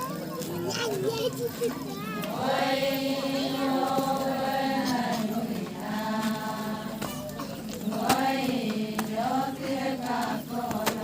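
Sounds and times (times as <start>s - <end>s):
voices chanting a song: 2.2s - 11.0s.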